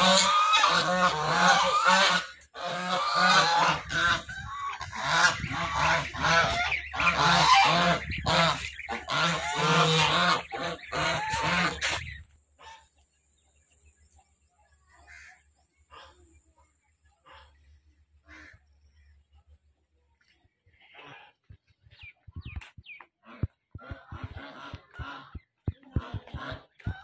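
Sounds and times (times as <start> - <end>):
geese honking: 0.0 - 13.4, 14.9 - 19.3, 22.4 - 27.0.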